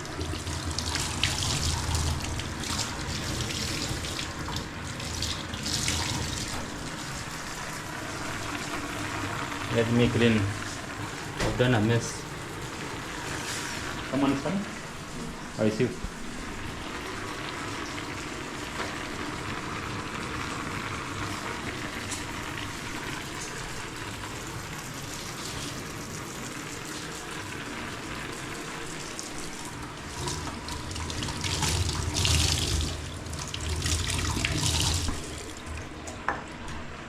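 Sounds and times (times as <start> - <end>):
water running and splashing: 0.0 - 36.3.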